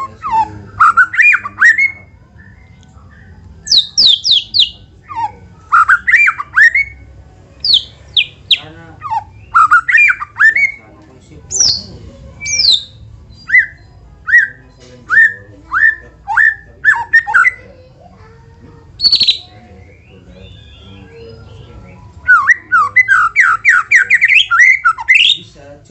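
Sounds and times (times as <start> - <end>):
songbird whistling phrases: 0.0 - 10.8, 11.5 - 25.5.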